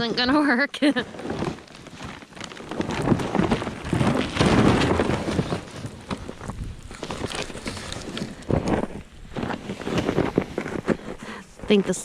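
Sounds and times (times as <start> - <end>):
sled sliding on crunching snow: 0.0 - 12.0.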